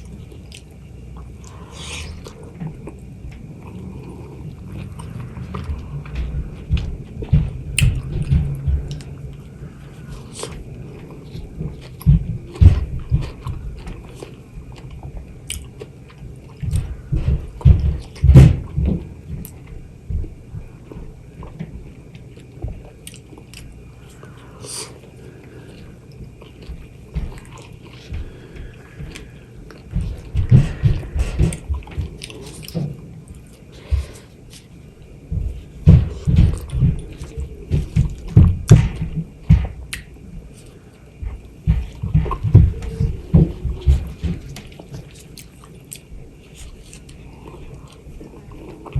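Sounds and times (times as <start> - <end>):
biting and wet chewing of mango: 0.0 - 48.9.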